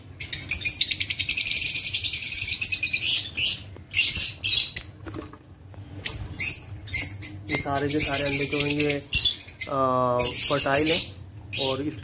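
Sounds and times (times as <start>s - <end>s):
high-pitched bird chatter: 0.0s - 5.2s, 5.9s - 12.0s.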